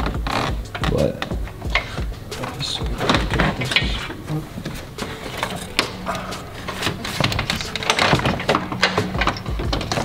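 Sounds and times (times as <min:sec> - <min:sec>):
radiator knocking and scraping: 0:00.0 - 0:10.0.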